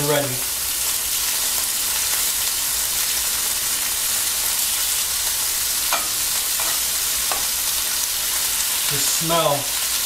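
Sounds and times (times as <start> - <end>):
steak sizzling in a skillet: 0.0 - 10.0.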